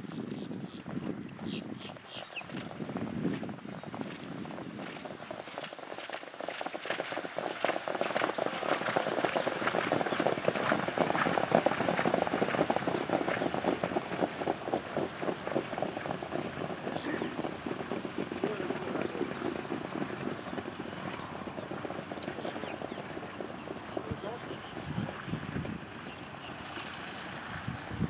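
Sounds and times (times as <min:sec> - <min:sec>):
horse hoofbeats on sand: 0:00.0 - 0:27.9.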